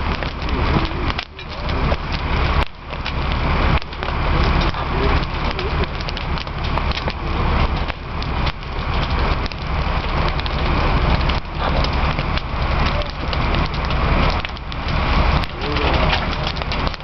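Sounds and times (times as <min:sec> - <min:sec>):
fire crackling and popping: 0:00.0 - 0:17.0
low rumble: 0:00.0 - 0:17.0
rush of flames: 0:00.0 - 0:17.0.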